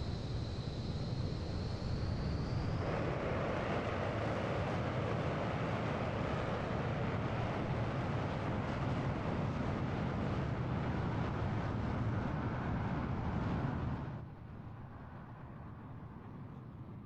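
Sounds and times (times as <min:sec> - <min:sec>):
jet engines roaring: 0:00.1 - 0:16.3.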